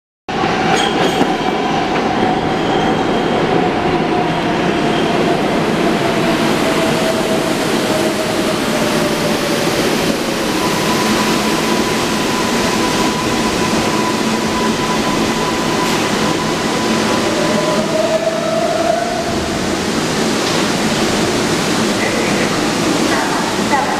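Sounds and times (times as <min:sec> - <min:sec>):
train wheels rumbling on rail: 0:00.3 - 0:23.9.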